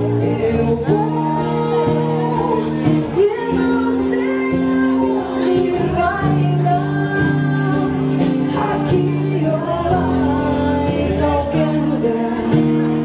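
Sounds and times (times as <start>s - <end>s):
strummed acoustic guitar: 0.0s - 13.0s
woman singing: 0.0s - 13.0s.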